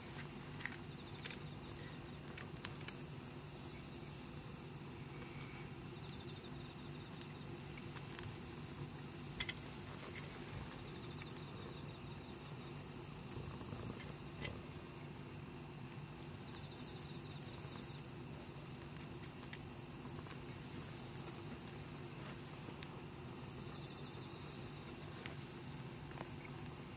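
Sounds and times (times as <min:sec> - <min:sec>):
high steady insect buzz: 0:00.0 - 0:26.9
insects trilling: 0:00.0 - 0:26.9.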